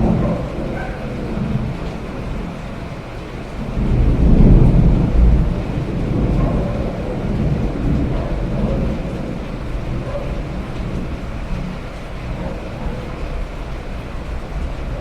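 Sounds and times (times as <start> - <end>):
steady rain: 0.0 - 15.0
thunder rumble: 0.0 - 15.0.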